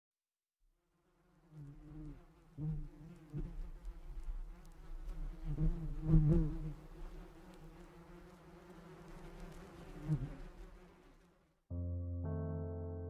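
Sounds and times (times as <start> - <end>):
bee buzzing: 0.9 - 11.4.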